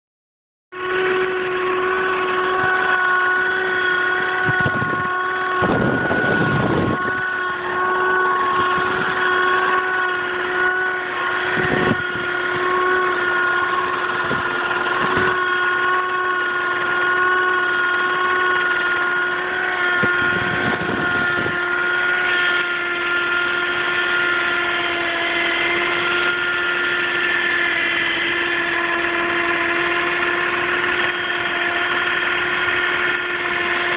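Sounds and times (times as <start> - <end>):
car humming tone: 0.7 - 33.9.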